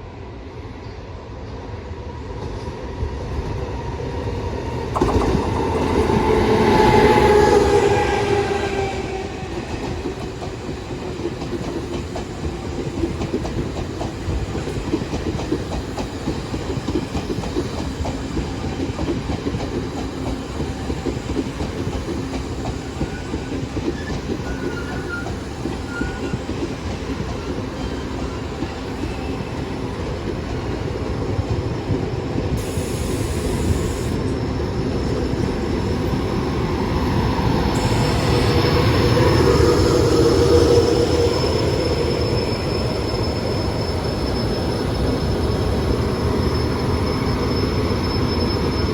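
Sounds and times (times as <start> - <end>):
train wheels clattering on track: 4.4 - 48.9.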